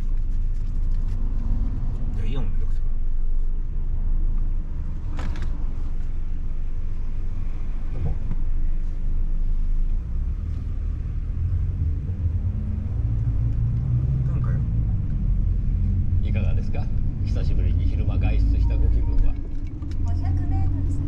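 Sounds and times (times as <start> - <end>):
car rumble inside cabin: 0.0 - 21.0.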